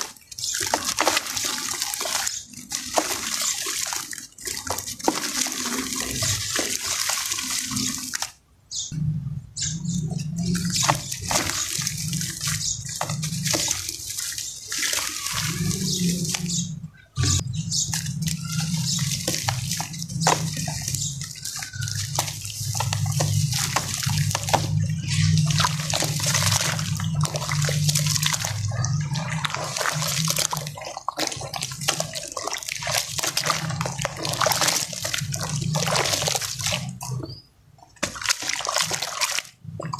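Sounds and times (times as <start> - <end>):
crumbs pattering into water: 0.0 - 8.4, 10.4 - 16.7, 17.9 - 37.2, 38.0 - 39.9
muddy water sloshing: 0.0 - 39.9.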